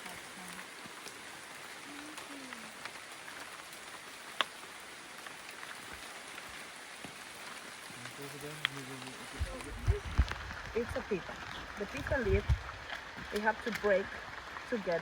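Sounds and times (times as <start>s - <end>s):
rainforest ambience hiss: 0.0s - 15.0s.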